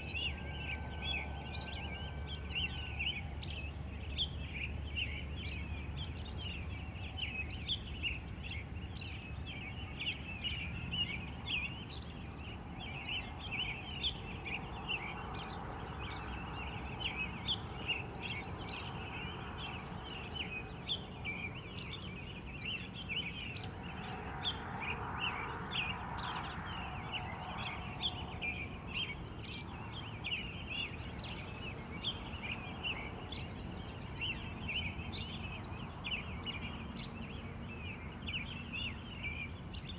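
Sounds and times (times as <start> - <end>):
birds chirping and singing: 0.0 - 23.9, 25.3 - 39.9.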